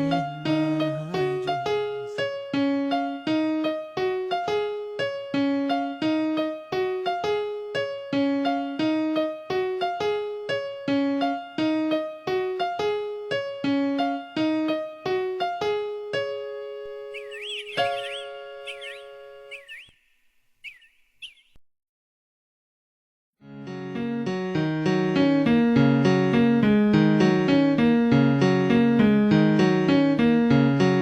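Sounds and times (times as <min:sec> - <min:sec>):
keyboard piano melody: 0:00.0 - 0:20.0, 0:23.5 - 0:31.0.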